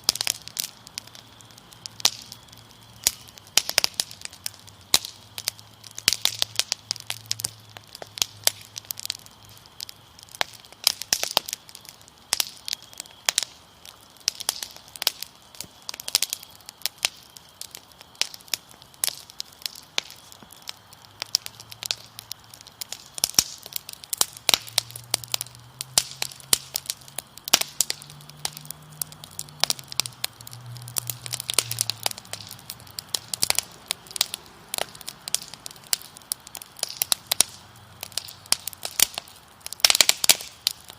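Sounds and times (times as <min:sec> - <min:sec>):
crickets chirring: 0:00.0 - 0:40.9
wood fire crackling and popping: 0:00.0 - 0:40.9.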